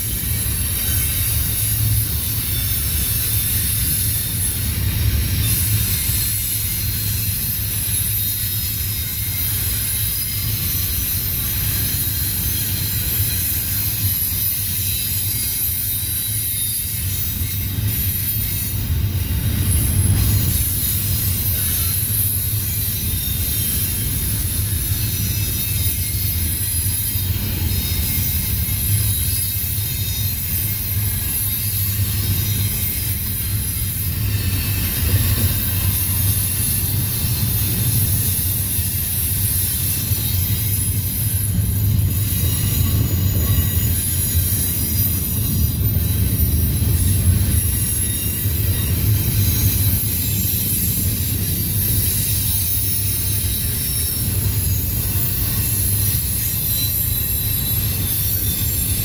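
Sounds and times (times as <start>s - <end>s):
high-pitched wheel squeal: 0.0s - 59.0s
train wheels rumbling on rail: 0.0s - 59.0s.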